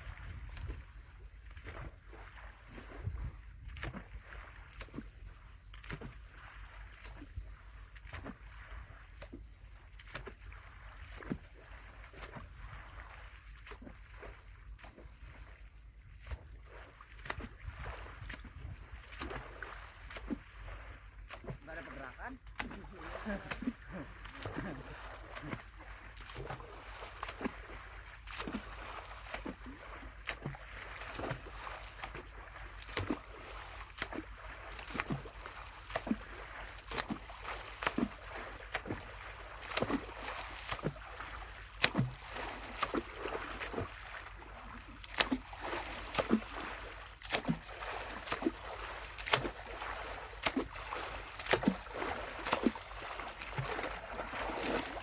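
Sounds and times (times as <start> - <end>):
faint water wash: 0.0 - 55.0.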